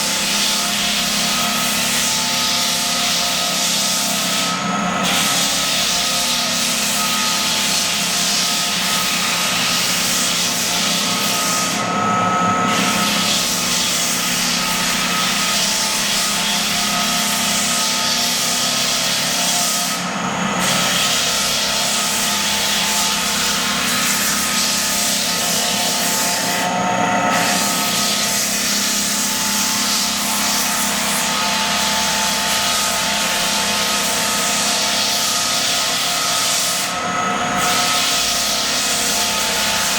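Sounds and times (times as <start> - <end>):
loud sanding hiss: 0.0 - 37.0, 37.6 - 39.9
sander motor hum: 0.0 - 39.9.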